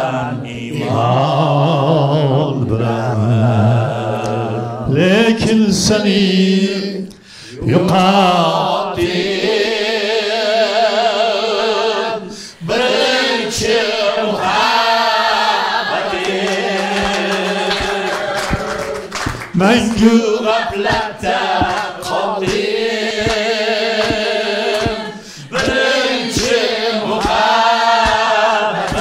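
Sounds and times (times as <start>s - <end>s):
man singing with vibrato: 0.1s - 15.1s, 16.1s - 29.0s.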